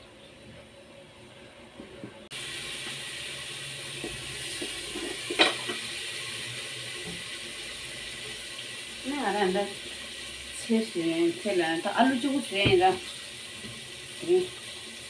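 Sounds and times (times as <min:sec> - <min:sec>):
tap water running into sink: 0:02.3 - 0:10.7, 0:11.3 - 0:15.0.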